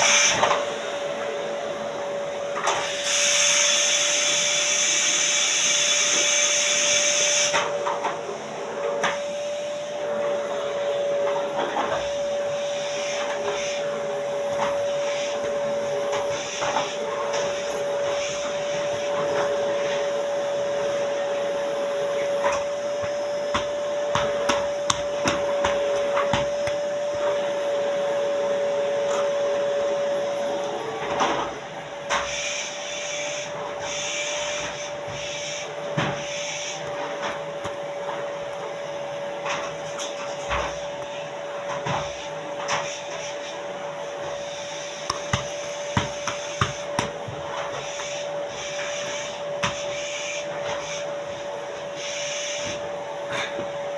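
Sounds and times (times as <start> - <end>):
vacuum cleaner humming: 0.0 - 53.9.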